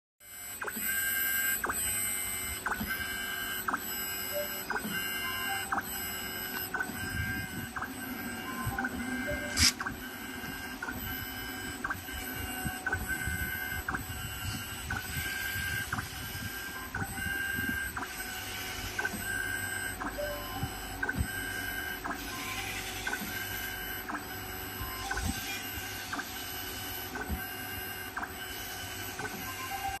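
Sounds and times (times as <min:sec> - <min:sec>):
servo motor pulsing whine: 0:00.2 - 0:30.0.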